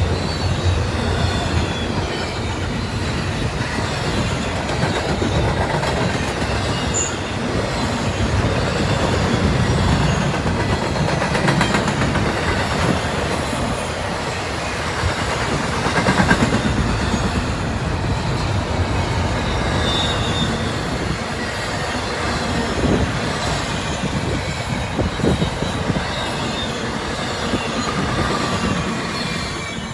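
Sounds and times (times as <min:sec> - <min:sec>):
faint wheel squeal: 0:00.0 - 0:15.6, 0:18.2 - 0:29.9
wheels clattering over rail joints: 0:00.0 - 0:29.9.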